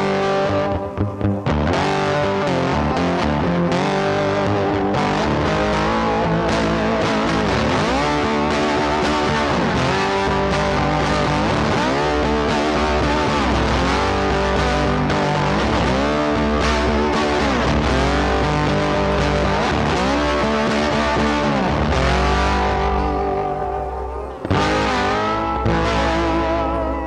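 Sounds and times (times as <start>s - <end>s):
electric guitar music: 0.0s - 27.0s.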